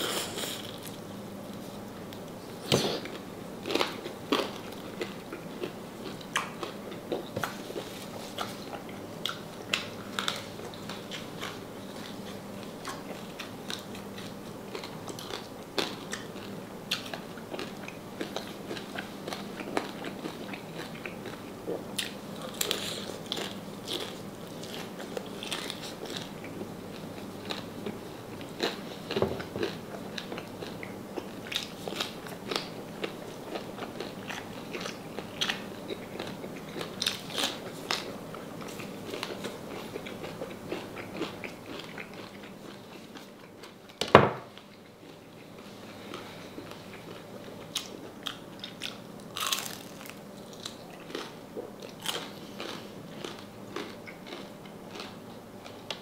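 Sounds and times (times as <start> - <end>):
steady low hum: 0.0 - 56.0
crunchy biting and chewing: 2.7 - 43.8, 46.1 - 55.8.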